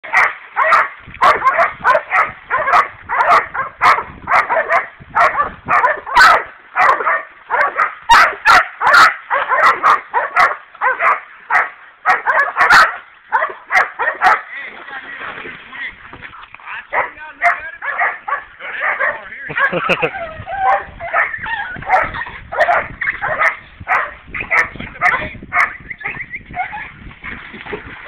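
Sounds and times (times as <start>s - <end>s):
dogs barking: 0.0s - 14.5s, 16.9s - 27.4s.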